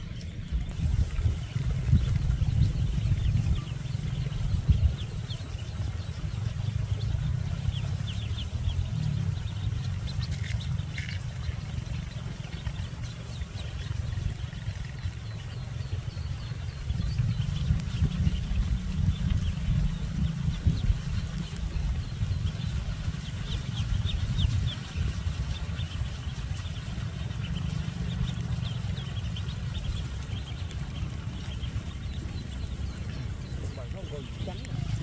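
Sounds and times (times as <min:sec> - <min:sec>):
ducklings peeping: 0:00.0 - 0:35.0
low rumble: 0:00.0 - 0:35.0.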